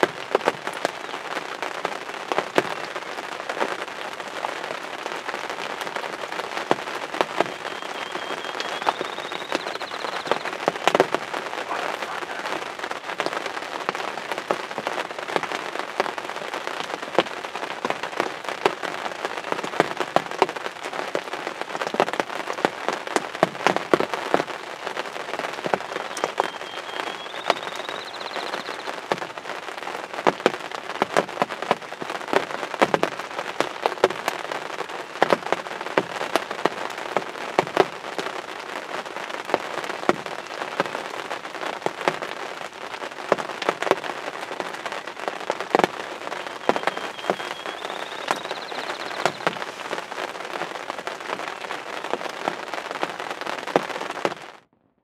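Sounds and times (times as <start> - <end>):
raindrops hitting a blind: 0.0 - 54.6
rain pattering: 0.0 - 54.7.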